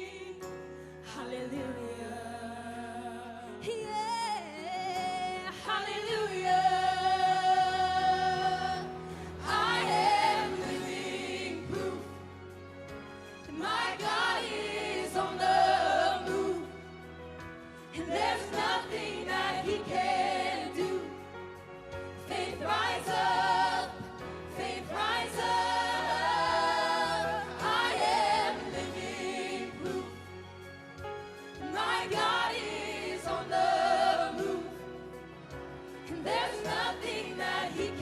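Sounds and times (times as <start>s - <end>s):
singers: 0.0s - 12.6s, 13.2s - 17.1s, 17.7s - 21.4s, 22.1s - 30.6s, 31.4s - 35.2s, 35.9s - 38.0s
bass: 0.0s - 38.0s.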